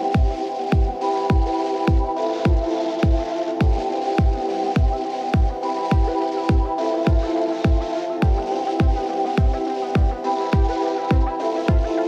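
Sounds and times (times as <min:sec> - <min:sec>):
kick-drum beat: 0:00.2 - 0:11.9.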